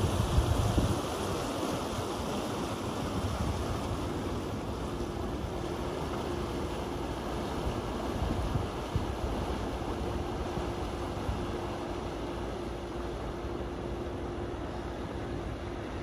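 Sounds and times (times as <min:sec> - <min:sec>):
barge engine droning: 0:00.0 - 0:16.0
wind buffeting microphone: 0:00.0 - 0:16.0.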